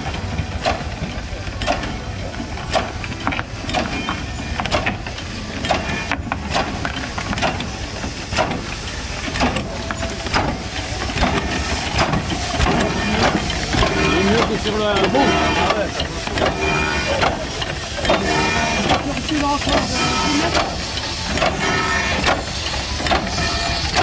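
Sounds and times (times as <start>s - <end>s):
machine knocking and clacking: 0.0s - 24.0s
steam hissing from boiler: 0.0s - 24.0s.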